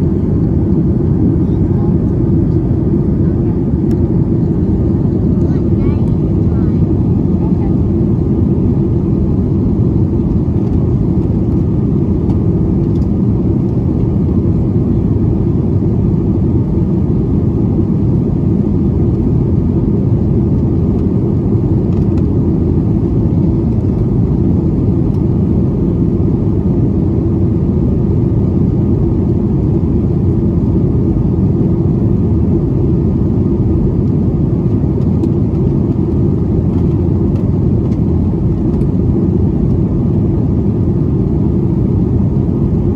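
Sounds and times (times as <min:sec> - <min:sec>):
airplane cabin engine noise: 0:00.0 - 0:42.9.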